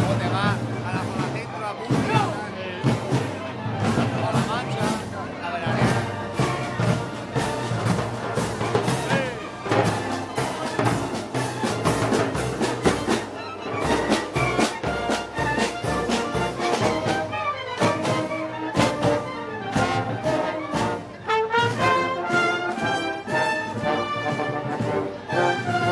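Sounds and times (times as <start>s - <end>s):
brass band playing: 0.0s - 25.9s
drumbeat: 0.0s - 25.9s.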